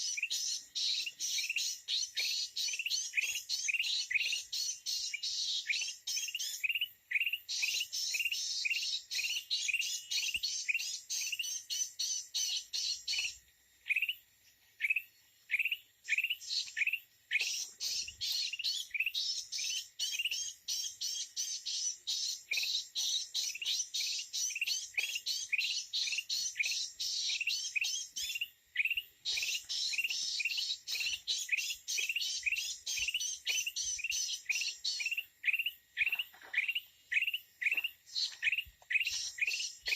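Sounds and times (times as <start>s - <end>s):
chatter of many birds: 0.0s - 39.9s.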